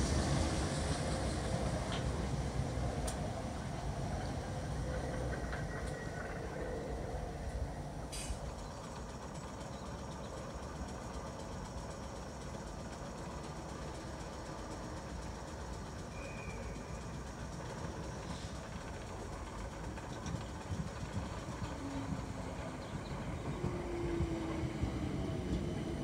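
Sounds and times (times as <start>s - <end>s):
standing train low rumble: 0.0s - 26.0s
train approaching: 0.0s - 26.0s.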